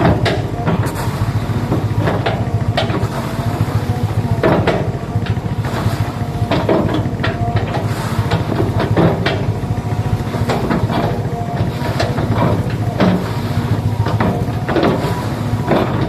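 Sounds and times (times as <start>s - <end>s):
excavator diesel engine running: 0.0s - 16.0s
steady whine: 0.0s - 16.0s.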